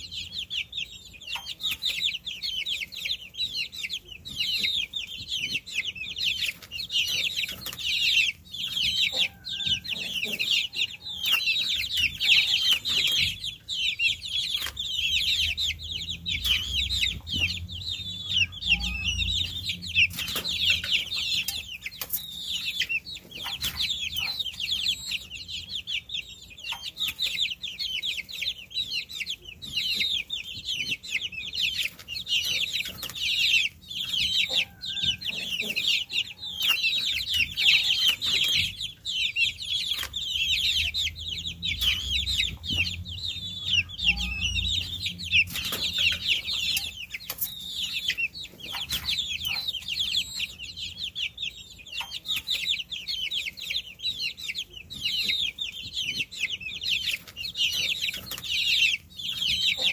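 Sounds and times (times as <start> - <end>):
baby chicks cheeping: 0.0 - 59.9.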